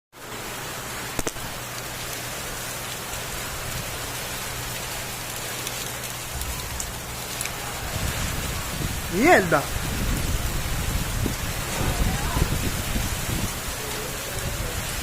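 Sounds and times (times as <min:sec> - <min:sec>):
heavy rain pouring: 0:00.2 - 0:15.0.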